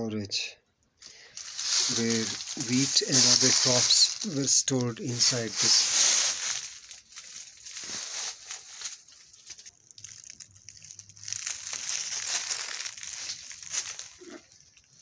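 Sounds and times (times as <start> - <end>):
footsteps crunching dry leaves: 1.0 - 15.0.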